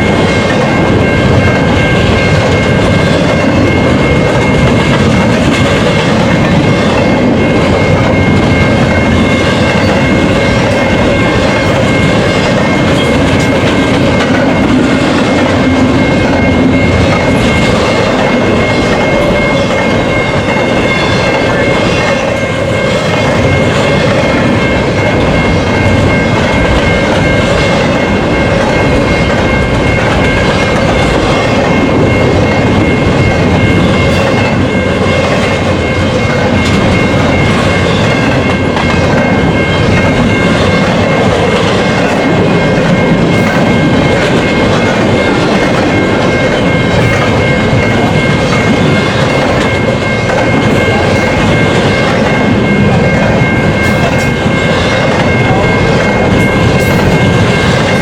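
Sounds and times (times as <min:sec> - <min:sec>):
freight train rumbling past: 0:00.0 - 0:58.0
high-pitched ringing tone: 0:00.0 - 0:58.0.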